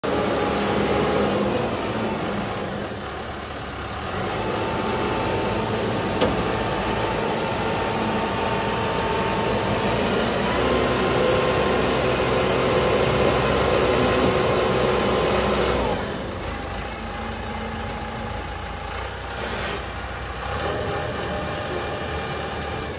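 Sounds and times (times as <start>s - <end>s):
concrete mixer engine running: 0.0s - 22.9s.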